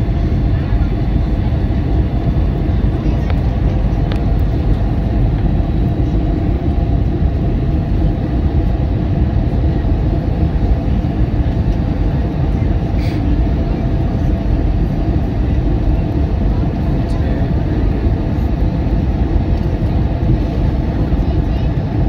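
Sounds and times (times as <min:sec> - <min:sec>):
jet engines and airflow rumble: 0:00.0 - 0:22.0.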